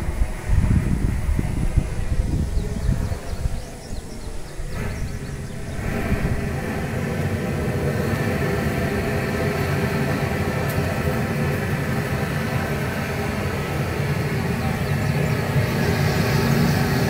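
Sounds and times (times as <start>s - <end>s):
propane torch rushing: 0.0s - 17.0s.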